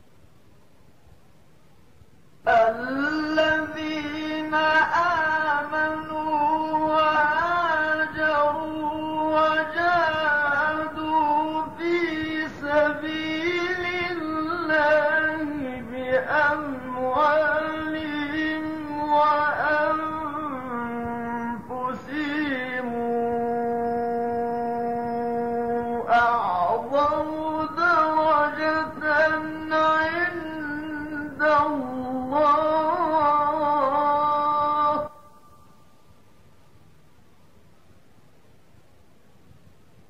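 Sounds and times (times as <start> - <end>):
man chanting melodic recitation: 2.4 - 35.9.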